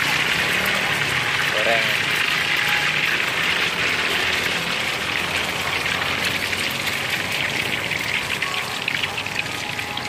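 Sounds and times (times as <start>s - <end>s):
egg batter sizzling in hot oil: 0.0s - 10.0s.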